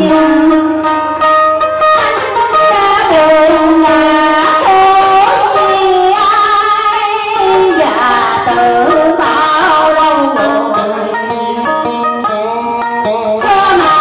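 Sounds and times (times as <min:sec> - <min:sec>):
woman singing: 0:00.0 - 0:00.9, 0:02.0 - 0:14.0
plucked string instruments: 0:00.0 - 0:14.0.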